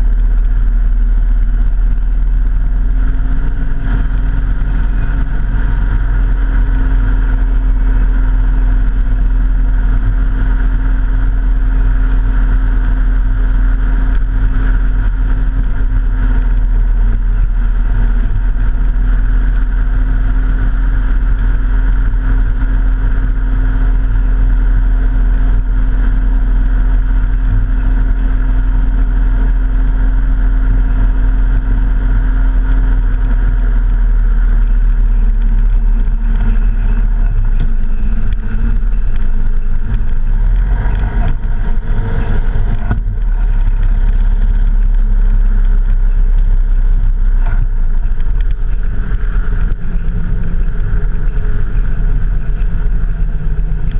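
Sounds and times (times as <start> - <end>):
vehicle engine running: 0.0 - 53.9
wind and road noise: 0.0 - 53.9.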